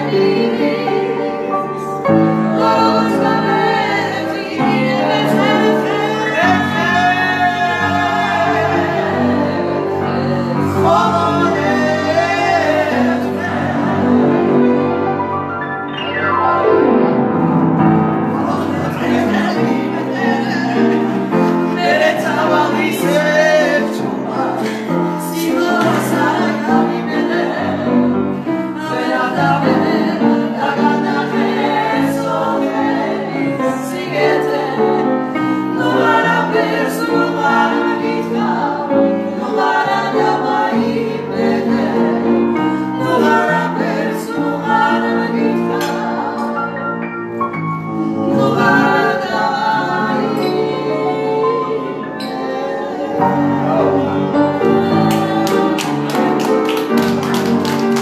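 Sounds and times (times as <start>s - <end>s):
women singing together: 0.0s - 15.0s, 18.1s - 58.0s
upright piano: 0.0s - 58.0s.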